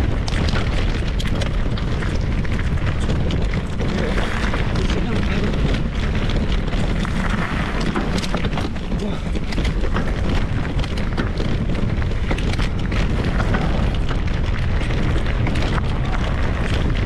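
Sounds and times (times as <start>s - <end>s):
bike clicks and rattles: 0.0s - 17.0s
tyres crunching over stones: 0.0s - 17.0s
wind rumble on microphone: 0.0s - 17.0s.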